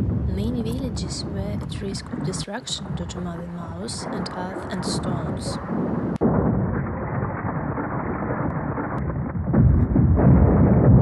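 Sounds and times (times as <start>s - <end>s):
rumble of rockfall: 0.0s - 11.0s.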